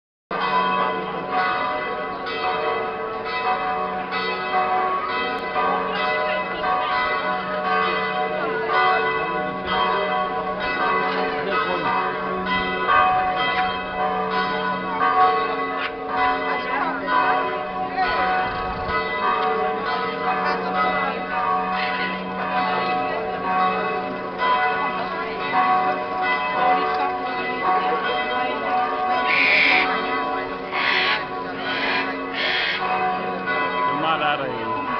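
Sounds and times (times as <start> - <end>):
church bells ringing: 0.3 - 34.9
murmur of a large crowd: 5.2 - 14.8, 15.8 - 34.9.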